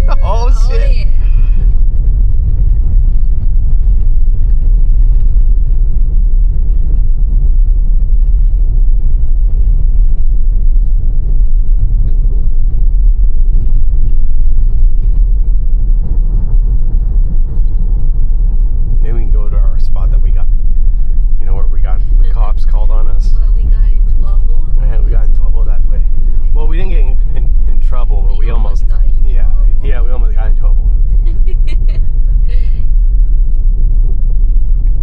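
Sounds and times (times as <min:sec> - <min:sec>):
car tyres rumbling on snow: 0:00.0 - 0:35.0.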